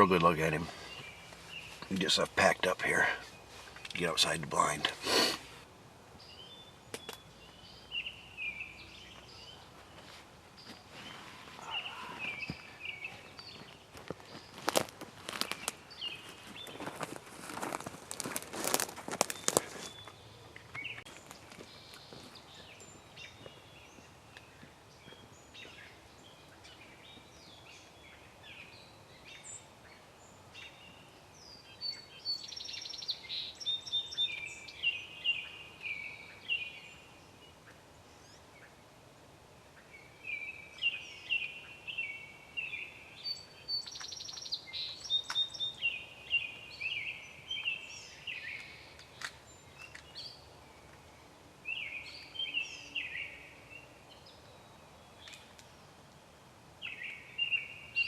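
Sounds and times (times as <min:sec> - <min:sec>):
songbirds singing: 0:00.0 - 0:05.4, 0:06.0 - 0:38.9, 0:39.6 - 0:58.0.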